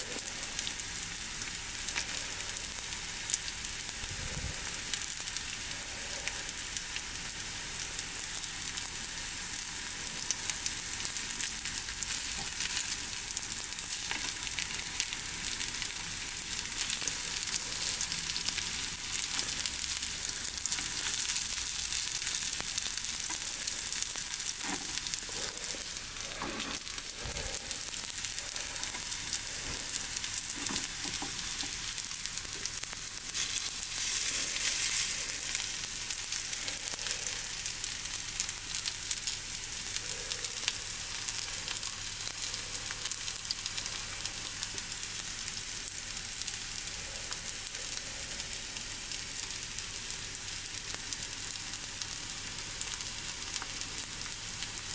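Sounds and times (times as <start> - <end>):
food sizzling in oil: 0.0 - 54.9.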